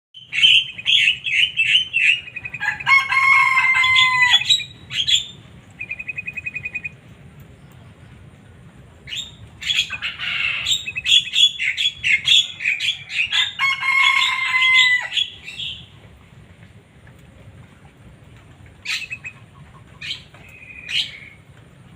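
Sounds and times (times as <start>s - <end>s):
songbird chirps and trills: 0.2s - 16.4s, 17.1s - 21.9s.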